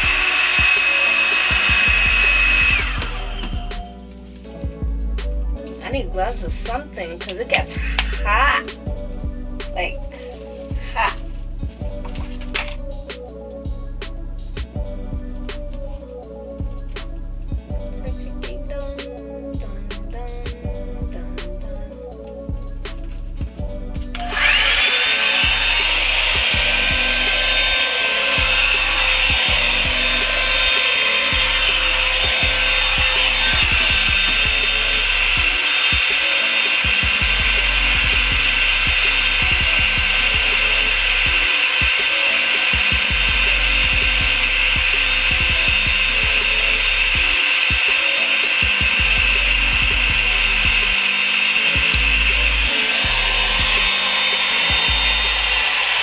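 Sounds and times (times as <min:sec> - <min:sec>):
blow dryer whining: 0:00.0 - 0:16.0, 0:24.0 - 0:56.0.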